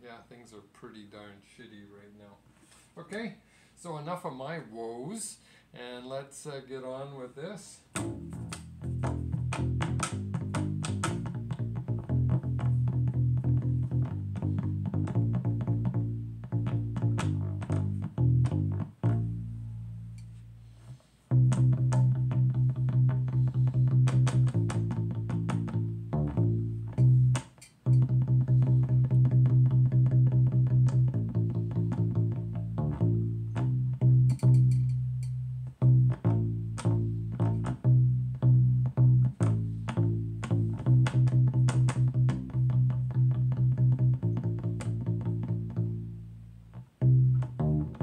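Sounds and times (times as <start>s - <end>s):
bass ukulele plucked low notes: 8.0s - 20.7s, 21.3s - 48.0s.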